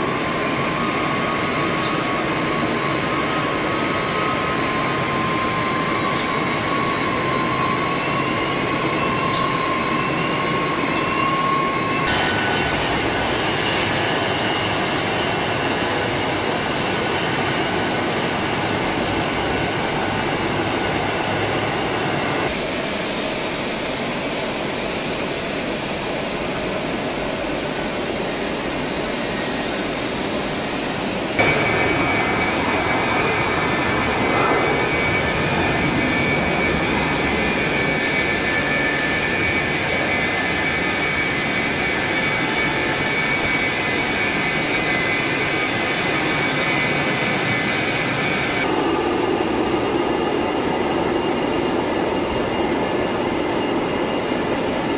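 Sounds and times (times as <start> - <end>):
jet engines rumbling and whining: 0.0 - 54.9.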